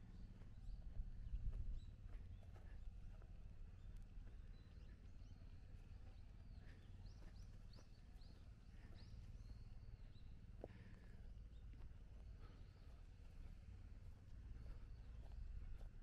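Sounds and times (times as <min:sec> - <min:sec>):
faint low rumble: 0:00.0 - 0:16.0.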